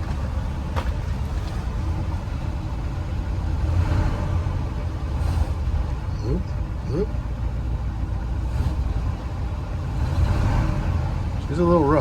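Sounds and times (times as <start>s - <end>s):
truck engine idling rough: 0.0s - 12.0s.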